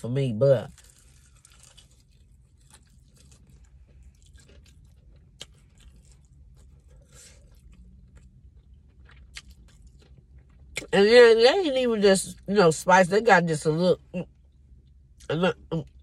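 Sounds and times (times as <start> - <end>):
low steady hum: 0.0 - 16.0
faint chewing and crunching: 0.2 - 12.5, 14.2 - 16.0.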